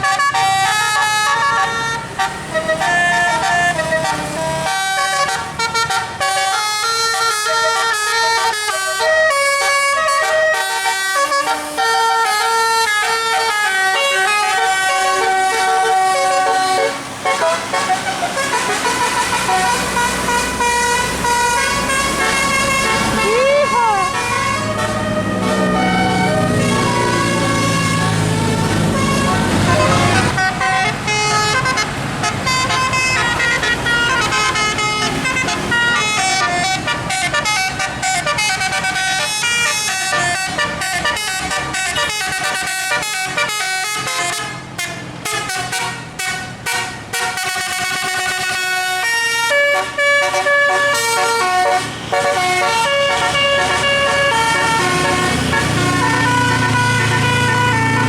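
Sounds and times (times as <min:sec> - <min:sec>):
musical bus horn tune: 0:00.0 - 0:58.0.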